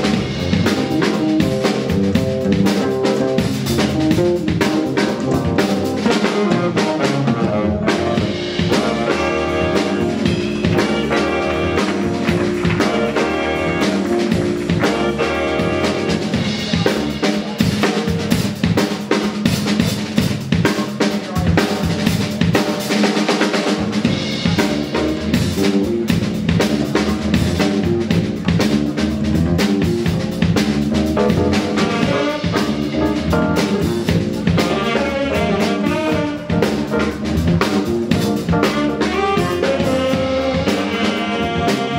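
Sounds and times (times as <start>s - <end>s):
drum kit groove: 0.0s - 41.9s
live jazz band music: 0.0s - 41.9s.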